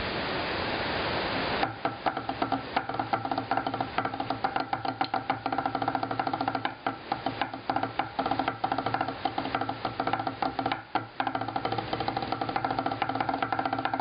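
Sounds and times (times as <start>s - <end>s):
rapid snare drum strokes: 1.6s - 14.0s.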